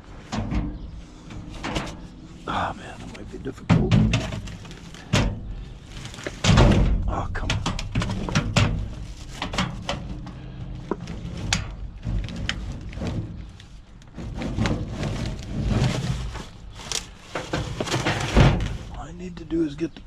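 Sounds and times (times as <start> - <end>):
junk knocking and scraping: 0.0 - 19.8.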